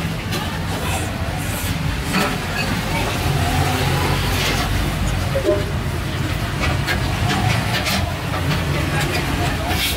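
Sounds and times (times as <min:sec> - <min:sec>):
low rumble of street traffic: 0:00.0 - 0:09.9.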